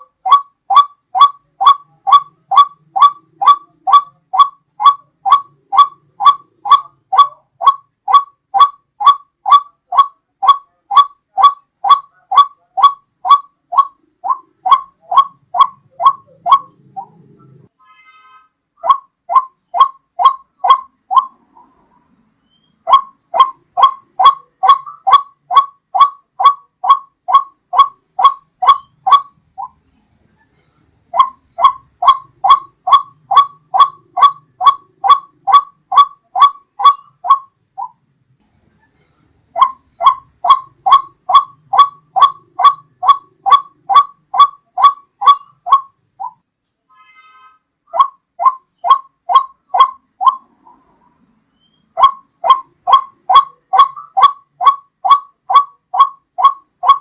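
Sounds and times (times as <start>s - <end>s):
waterhen calling: 0.0s - 21.8s, 22.4s - 29.9s, 31.1s - 38.0s, 39.5s - 46.4s, 47.9s - 51.0s, 51.6s - 57.0s.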